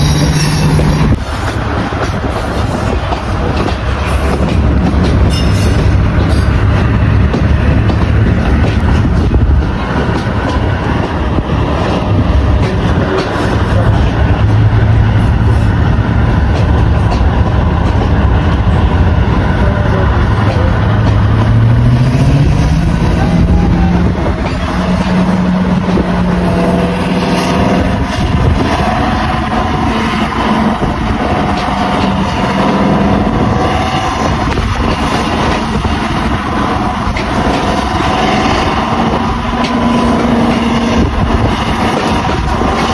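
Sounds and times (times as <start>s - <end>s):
diesel locomotive engine: 0.0s - 42.9s.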